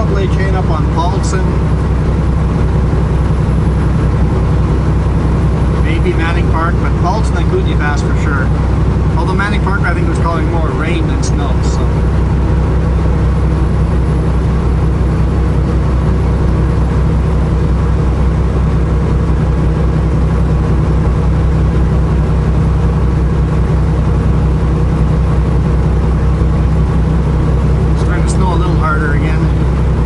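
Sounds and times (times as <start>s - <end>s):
road noise: 0.0s - 30.0s
truck diesel engine droning: 0.0s - 30.0s.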